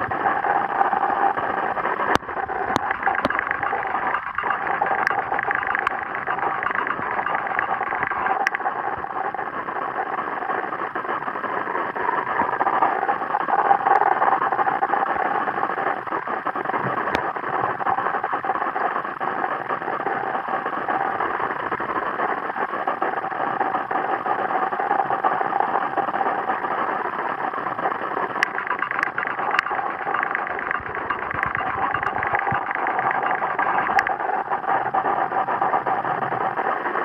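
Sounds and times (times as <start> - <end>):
faint clicks: 0.0 - 37.0
underwater drone with hum: 0.0 - 37.0.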